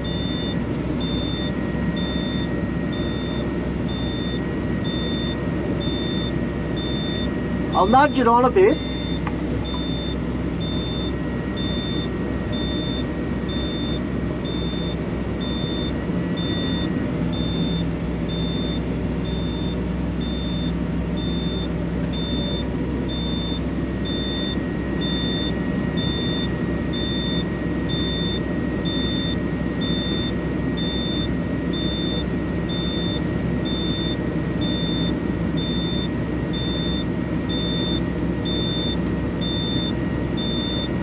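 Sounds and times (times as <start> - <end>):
electronic warning beeper: 0.0 - 41.0
excavator engine running: 0.0 - 41.0.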